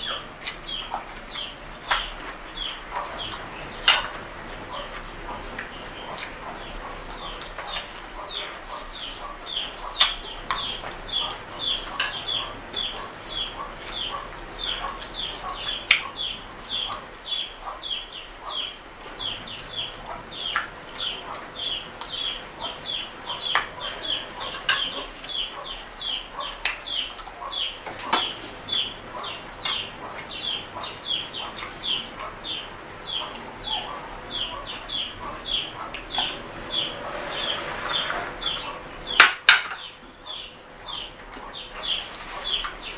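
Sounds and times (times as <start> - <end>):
person eating with clicks and smacking: 0.0 - 36.4, 41.0 - 42.9
chicks peeping: 0.0 - 42.9.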